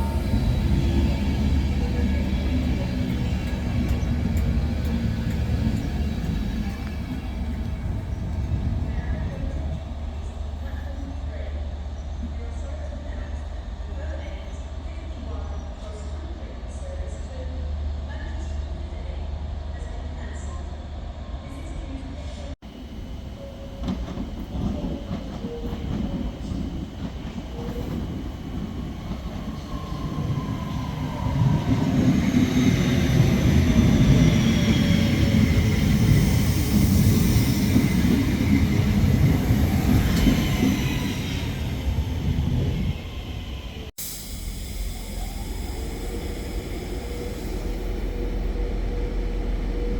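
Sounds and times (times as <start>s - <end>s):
train wheel and rail noise: 0.0s - 49.9s.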